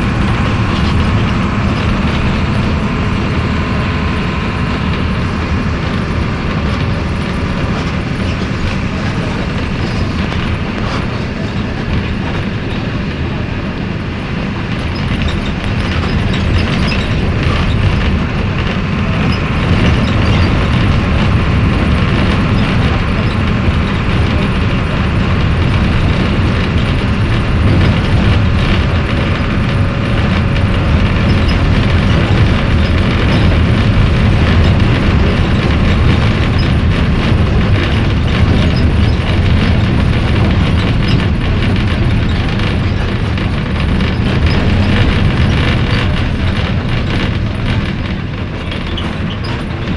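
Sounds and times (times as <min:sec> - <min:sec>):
bus diesel engine drone: 0:00.0 - 0:49.9.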